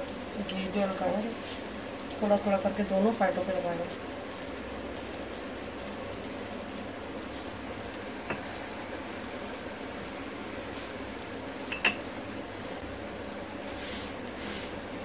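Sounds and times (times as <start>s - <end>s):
flatbread sizzling on pan: 0.0s - 15.0s.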